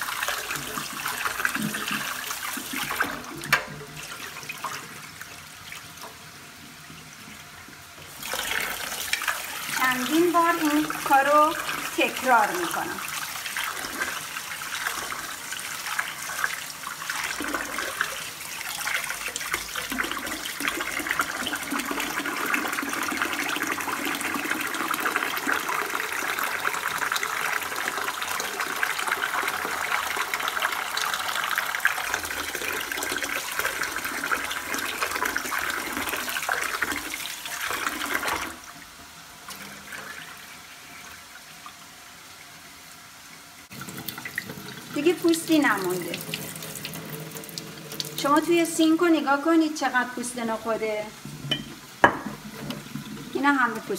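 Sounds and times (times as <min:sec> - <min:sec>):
tap water running into pot: 0:00.0 - 0:42.4, 0:43.7 - 0:48.9, 0:51.2 - 0:53.9.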